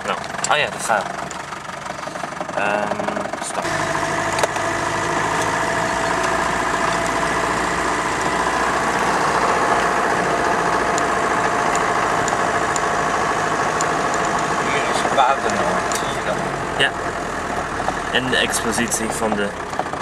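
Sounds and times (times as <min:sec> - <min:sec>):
car engine running steadily: 0:00.0 - 0:20.0.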